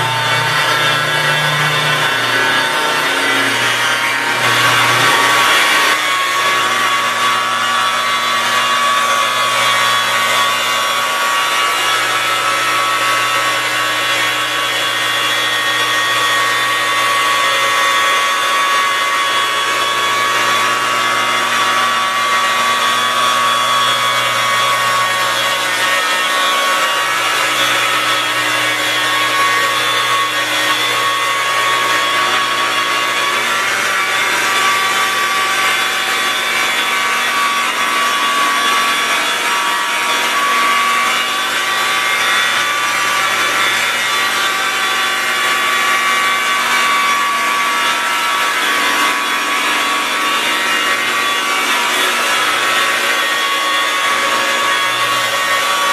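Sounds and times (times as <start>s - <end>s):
rotary polisher motor whine: 0.0s - 55.9s.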